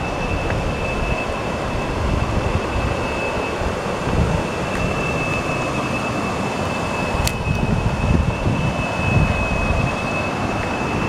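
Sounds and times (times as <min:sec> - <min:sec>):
water rushing over rapids: 0:00.0 - 0:11.0.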